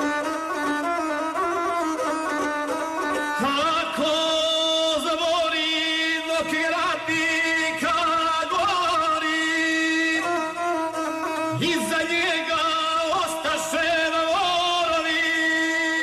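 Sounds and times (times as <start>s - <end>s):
bowed one-stringed fiddle: 0.0s - 16.0s.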